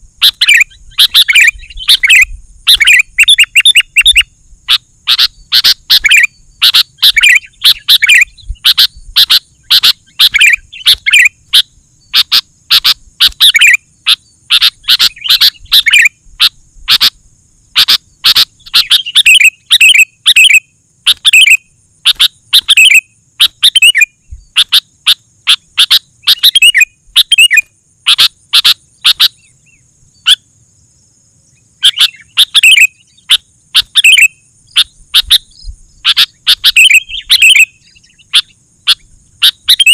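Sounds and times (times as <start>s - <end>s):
faint high hiss: 0.0s - 39.7s
bird singing bubbly chirps: 0.2s - 24.8s, 25.5s - 30.4s, 31.8s - 39.9s.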